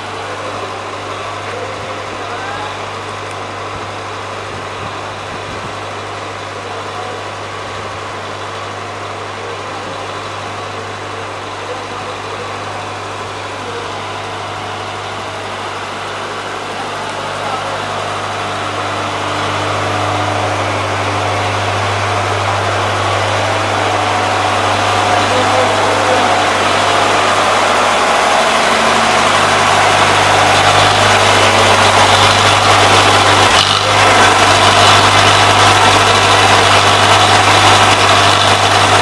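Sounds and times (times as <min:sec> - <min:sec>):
generator engine droning: 0:00.0 - 0:39.0.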